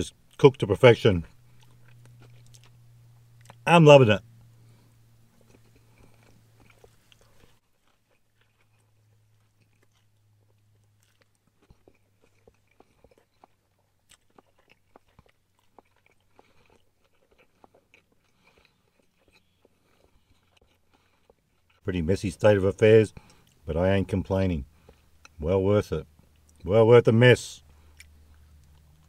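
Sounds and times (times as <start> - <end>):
steady low hum: 0.0 - 29.0
faint chewing: 1.2 - 3.7, 4.3 - 22.5, 23.1 - 25.4, 26.0 - 26.7, 27.6 - 29.0.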